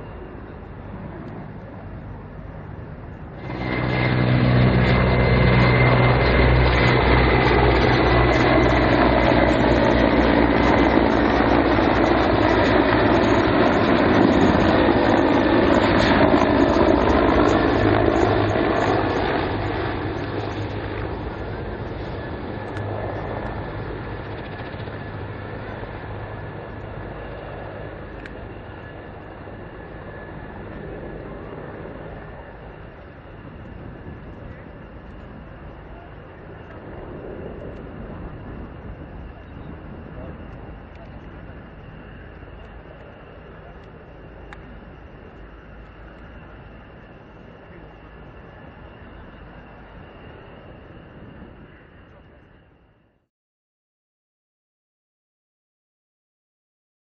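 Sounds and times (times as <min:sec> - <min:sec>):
helicopter flying past: 0:00.0 - 0:52.8.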